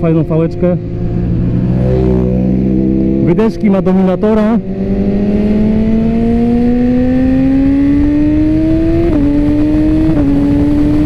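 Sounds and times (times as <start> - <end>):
motorcycle engine accelerating: 0.0 - 11.0
wind rush: 0.0 - 11.0.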